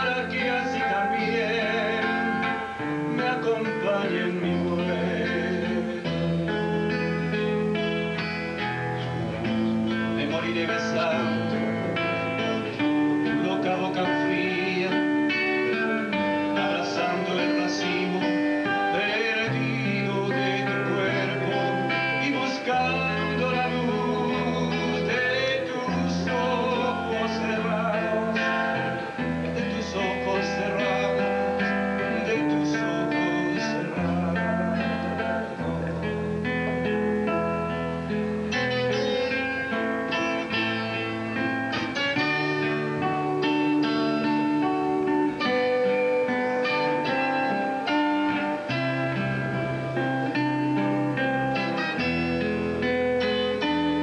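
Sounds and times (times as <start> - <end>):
acoustic guitars playing: 0.0 - 54.0
man singing: 0.0 - 54.0.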